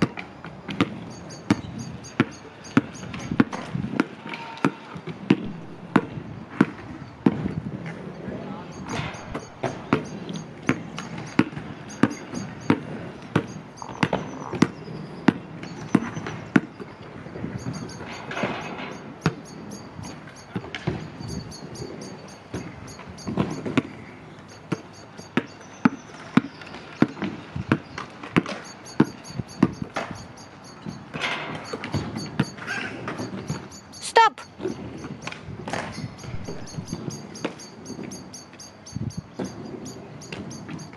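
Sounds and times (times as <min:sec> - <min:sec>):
basketball bouncing on asphalt: 0:00.0 - 0:08.1, 0:08.8 - 0:34.0, 0:34.6 - 0:38.6.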